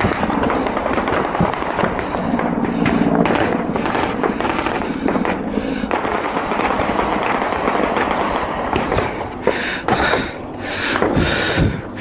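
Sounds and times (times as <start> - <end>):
rapid gunfire: 0.0 - 12.0
steady low hum: 0.0 - 12.0.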